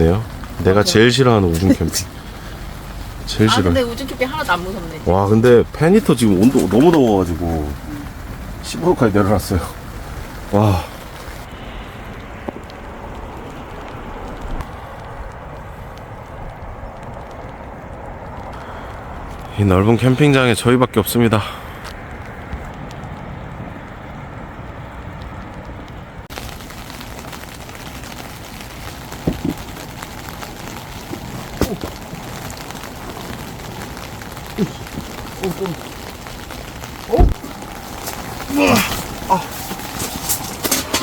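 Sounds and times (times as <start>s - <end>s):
rain on a tent: 0.0s - 41.0s.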